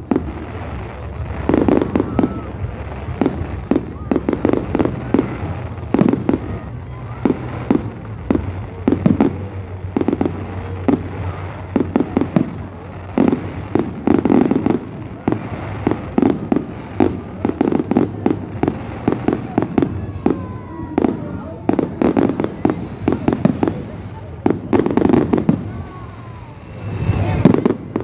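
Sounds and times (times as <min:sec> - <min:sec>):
fireworks bangs and crackling: 0:00.0 - 0:28.0.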